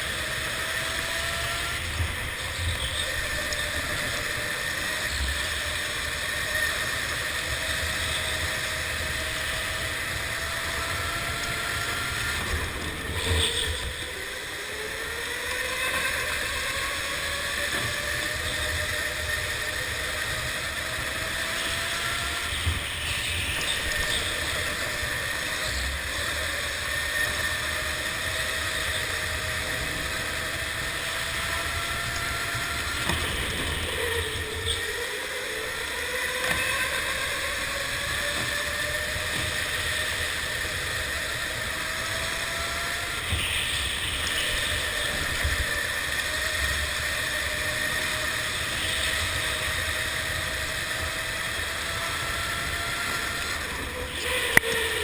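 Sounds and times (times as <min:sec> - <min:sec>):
electric go-kart motor whining: 0:00.0 - 0:55.0.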